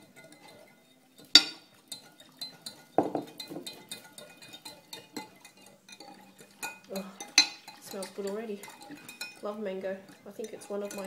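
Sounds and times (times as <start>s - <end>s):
spoon clinking against glass jug: 0.0s - 9.4s, 10.1s - 11.0s.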